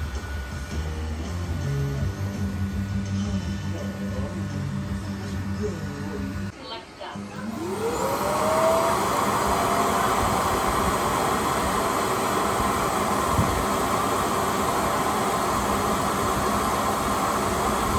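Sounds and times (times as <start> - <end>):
vacuum suction fan whining: 0.0 - 17.9.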